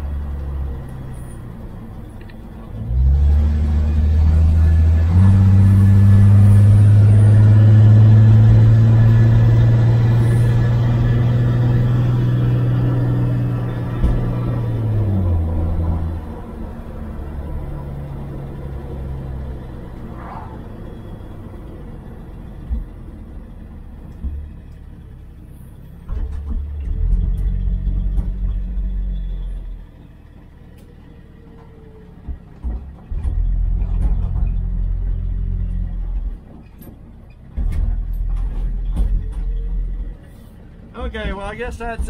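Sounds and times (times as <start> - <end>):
car engine rumble: 0.0 - 42.0.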